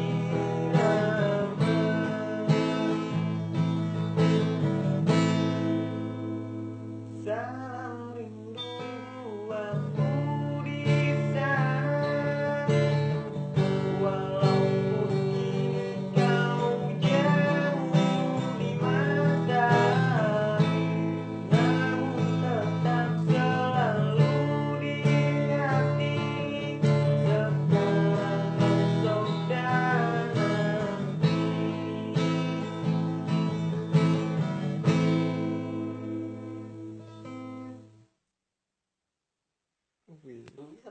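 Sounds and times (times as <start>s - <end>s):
strummed acoustic guitar: 0.0s - 38.0s.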